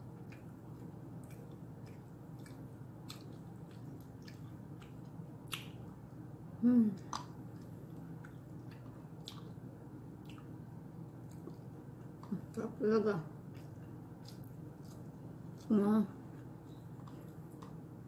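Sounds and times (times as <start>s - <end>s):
chewing and mouth smacking: 0.0s - 6.0s, 7.0s - 12.6s, 13.5s - 18.0s
low steady hum: 0.0s - 18.0s.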